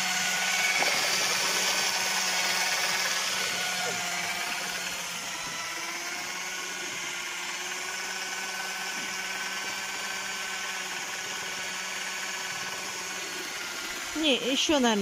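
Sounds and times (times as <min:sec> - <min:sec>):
electric drill mixing paint: 0:00.0 - 0:15.0.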